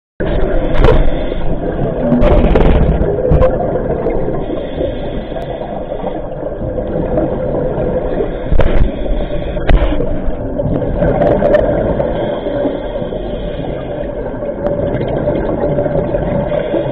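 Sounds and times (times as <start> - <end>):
underwater exhaled bubbles: 0.2 - 16.9.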